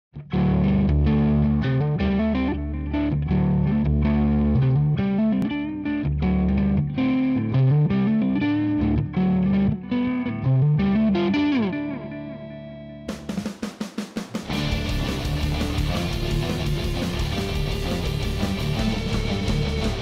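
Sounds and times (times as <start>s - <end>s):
distorted electric guitar melody: 0.2s - 13.6s, 14.4s - 20.0s.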